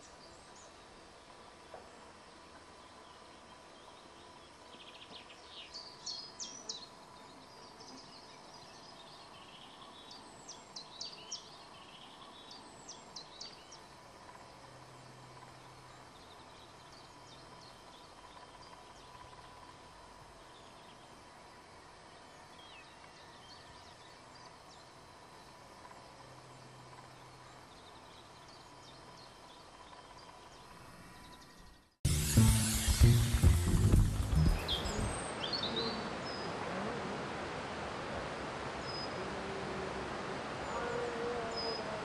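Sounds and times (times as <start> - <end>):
songbird singing: 0.0 - 36.5
faint low hum: 0.0 - 42.0
faint outdoor hiss: 0.0 - 42.0.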